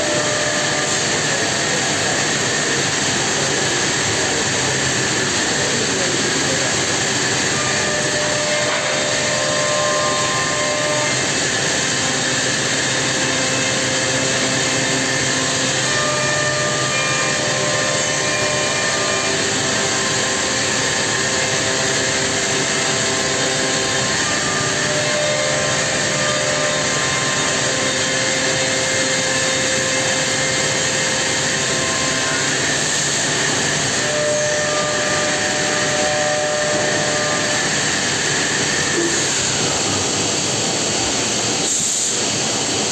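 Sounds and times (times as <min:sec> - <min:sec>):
cnc machine running: 0:00.0 - 0:42.9.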